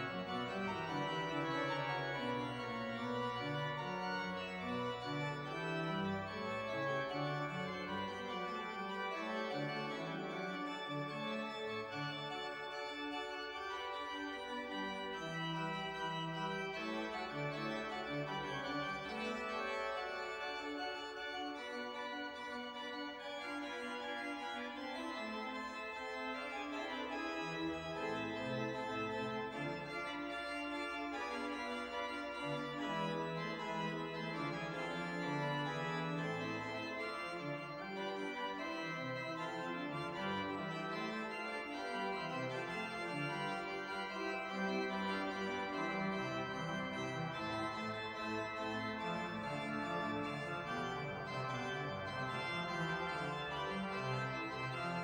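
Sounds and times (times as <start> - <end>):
pipe organ playing: 0.0 - 55.0.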